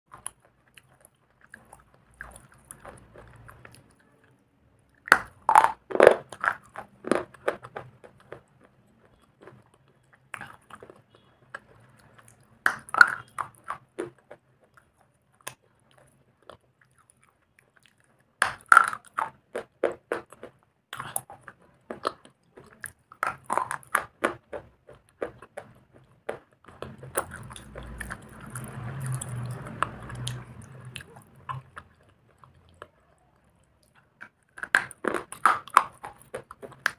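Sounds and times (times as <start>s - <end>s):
crunching and chewing: 0.1s - 36.9s.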